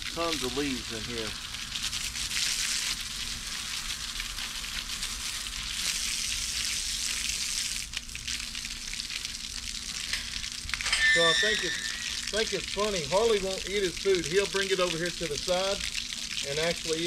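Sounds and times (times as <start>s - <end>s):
hose water hissing on concrete: 0.0s - 17.0s.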